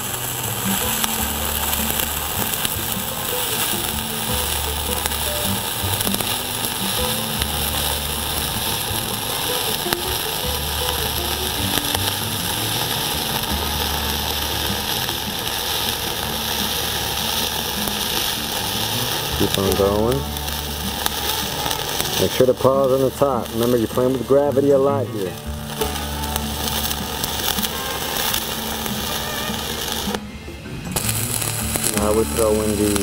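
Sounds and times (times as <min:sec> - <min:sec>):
welding arc crackling: 0:00.0 - 0:33.0.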